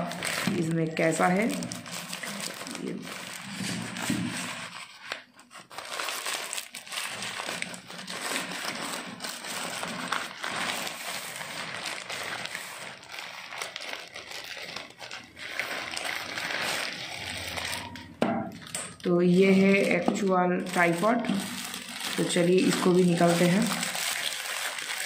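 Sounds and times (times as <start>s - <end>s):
bag and plastic wrapping rustling: 0.0s - 25.0s.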